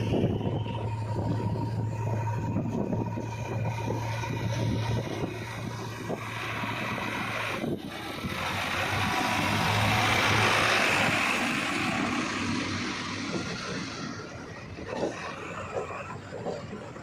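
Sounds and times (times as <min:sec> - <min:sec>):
heavy machinery diesel engines: 0:00.0 - 0:17.0
rushing noise: 0:00.0 - 0:17.0.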